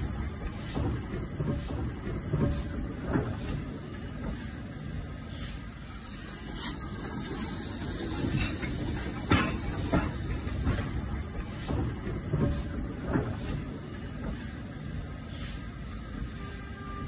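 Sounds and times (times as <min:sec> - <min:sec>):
model train running hiss: 0:00.0 - 0:17.0.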